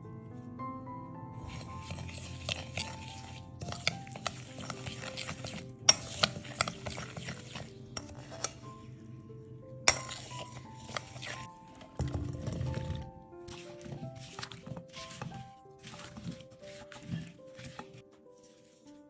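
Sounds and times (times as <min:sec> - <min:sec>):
soft background music: 0:00.0 - 0:19.0
utensil stirring and scraping in a bowl: 0:01.4 - 0:09.0, 0:09.8 - 0:19.0.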